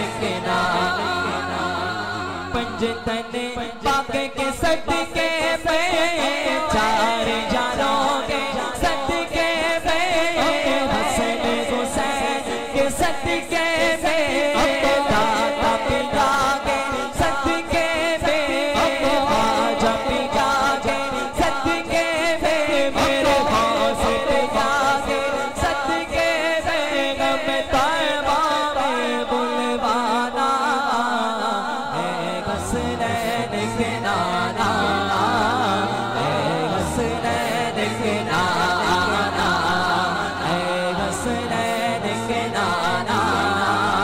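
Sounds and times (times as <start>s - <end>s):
man singing devotional song: 0.0s - 44.0s.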